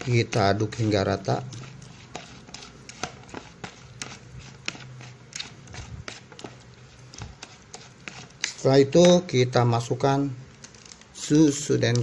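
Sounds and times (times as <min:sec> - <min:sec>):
spatula stirring wet meat paste: 0:00.0 - 0:12.0.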